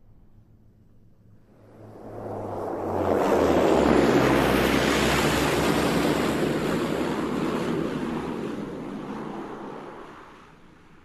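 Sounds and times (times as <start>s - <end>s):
propeller plane passing by: 0.0s - 11.0s.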